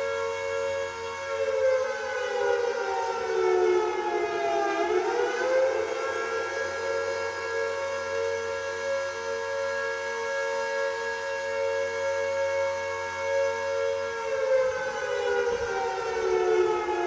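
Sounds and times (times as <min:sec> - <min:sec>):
air raid siren wailing: 0:00.0 - 0:17.0.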